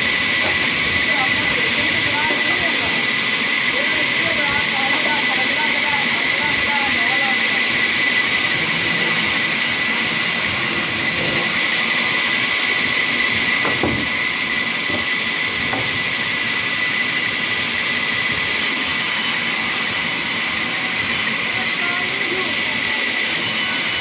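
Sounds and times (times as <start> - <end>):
sawmill machinery whining: 0.0 - 24.0.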